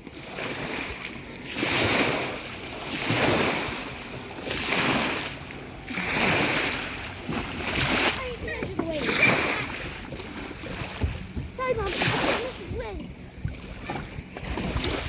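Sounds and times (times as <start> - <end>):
small lake waves washing in: 0.0 - 15.0.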